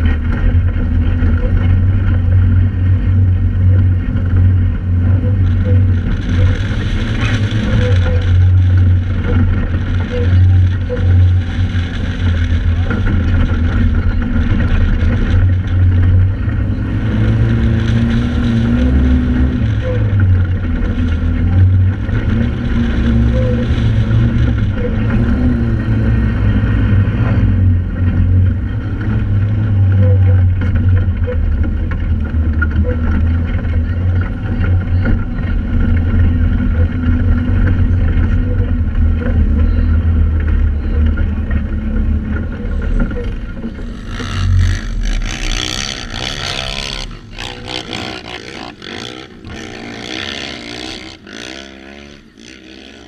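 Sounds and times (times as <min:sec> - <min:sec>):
engine running under load: 0:00.0 - 0:53.0
uneven rushing and clatter: 0:00.0 - 0:53.0.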